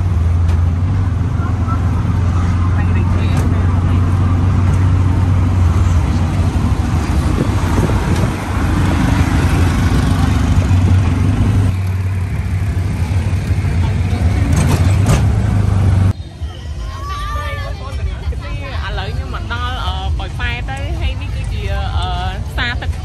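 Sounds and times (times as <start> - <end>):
vehicle engine hum: 0.0 - 17.0, 17.7 - 23.0
road and wind rush: 0.0 - 23.0.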